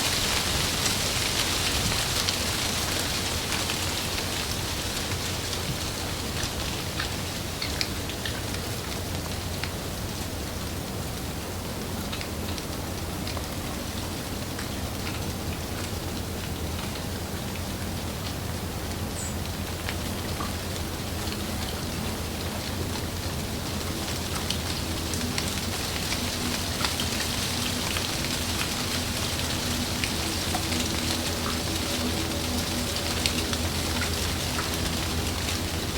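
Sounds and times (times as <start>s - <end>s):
heavy rain on leaves: 0.0s - 35.9s.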